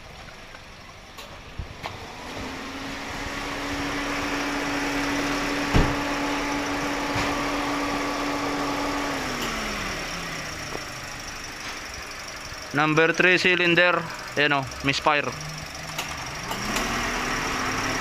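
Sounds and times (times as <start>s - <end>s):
engine running rough: 0.0s - 18.0s.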